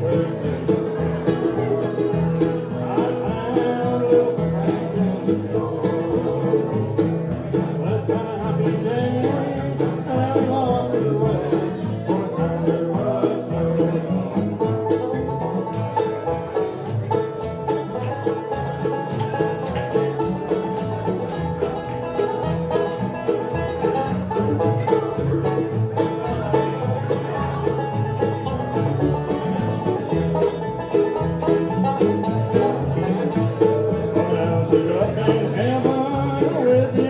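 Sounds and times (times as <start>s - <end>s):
banjo picking: 0.0s - 37.0s
guitar: 0.0s - 37.0s
mandolin: 0.0s - 37.0s
pulsing bass: 0.0s - 37.0s.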